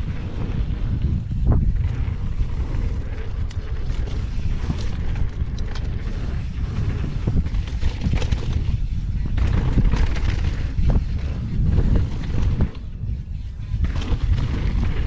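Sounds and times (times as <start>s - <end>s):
bike clicks and rattles: 0.0s - 15.0s
bike tyres rumbling on dirt: 0.0s - 15.0s
wind buffeting microphone: 0.0s - 15.0s.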